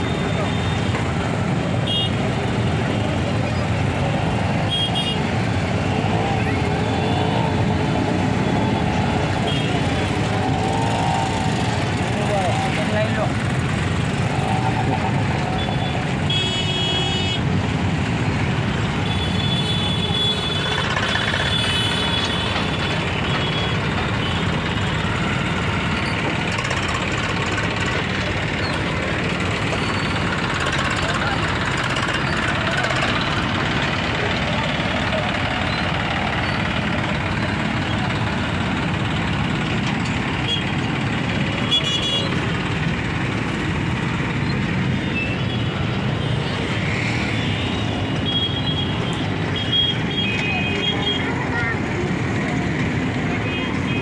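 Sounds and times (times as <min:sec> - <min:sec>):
tractor diesel engine running: 0:00.0 - 0:46.8, 0:47.4 - 0:54.0
traffic noise: 0:00.0 - 0:54.0.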